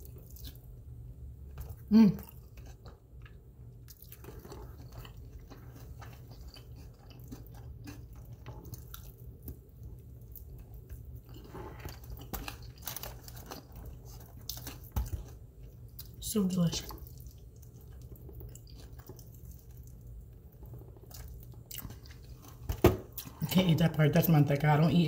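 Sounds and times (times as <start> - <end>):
person chewing and biting meat: 1.6 - 16.2, 17.0 - 23.4.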